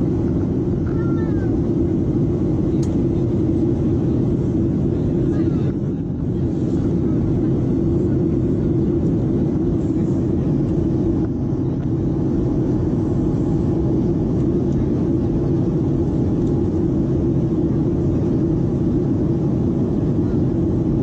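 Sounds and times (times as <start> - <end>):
jet engines and airflow rumbling: 0.0 - 21.0.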